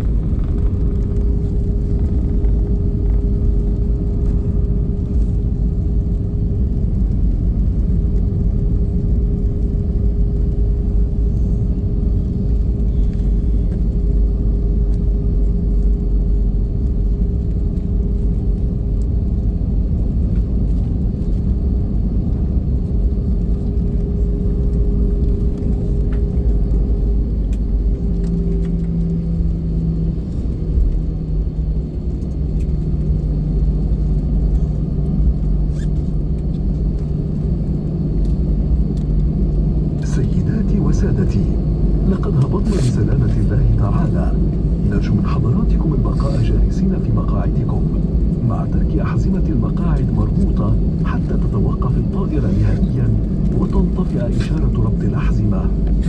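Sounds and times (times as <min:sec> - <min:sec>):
engines and wheels rumbling: 0:00.0 - 0:56.0
lower hum: 0:00.0 - 0:56.0
steady hum: 0:00.0 - 0:56.0.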